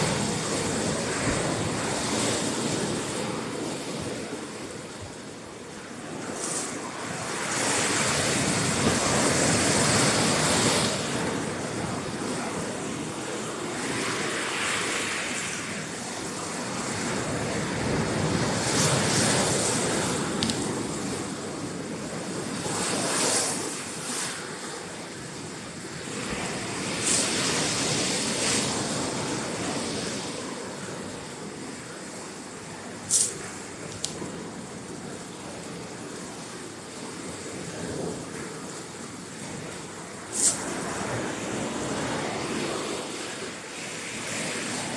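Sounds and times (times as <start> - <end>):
sea waves washing over gravel: 0.0 - 44.9.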